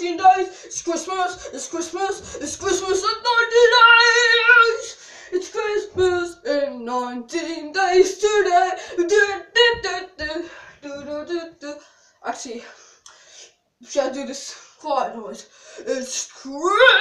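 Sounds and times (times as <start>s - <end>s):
boy singing unaccompanied: 0.0s - 12.6s, 13.8s - 17.0s.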